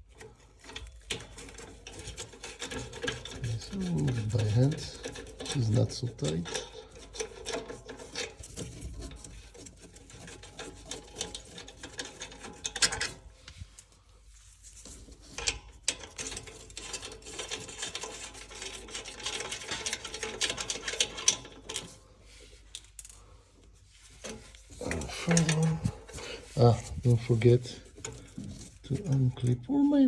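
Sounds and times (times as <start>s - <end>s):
metal rubbing: 0.0s - 30.0s.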